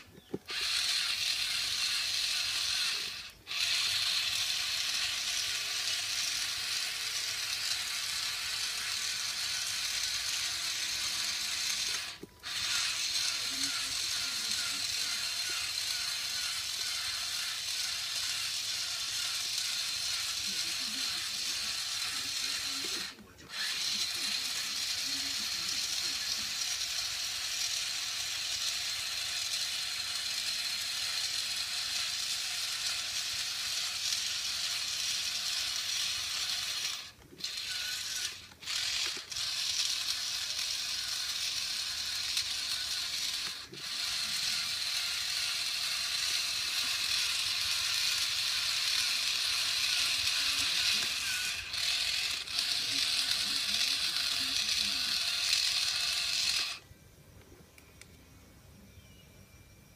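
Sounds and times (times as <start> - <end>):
toy motor whirring and clicking: 0.0 - 56.9.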